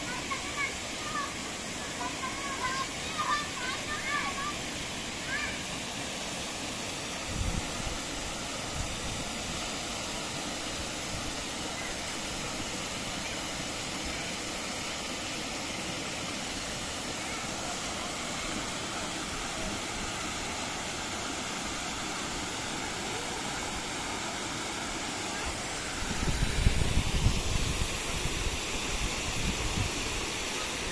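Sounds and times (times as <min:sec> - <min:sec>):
water rushing over boulders: 0:00.0 - 0:30.9.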